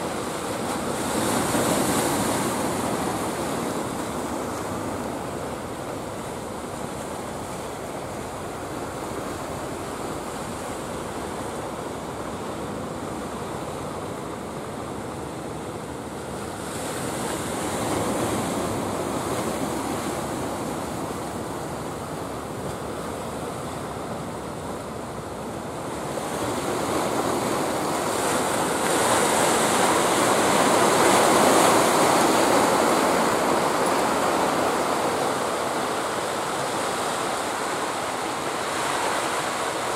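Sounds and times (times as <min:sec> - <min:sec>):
waves breaking on rocky shore: 0:00.0 - 0:39.9.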